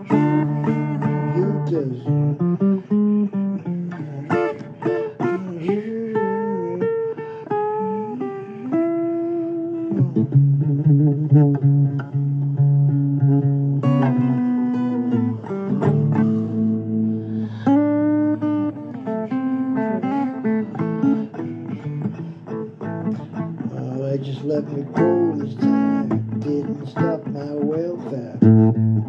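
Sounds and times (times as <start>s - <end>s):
bent blues guitar notes: 0.0s - 29.0s.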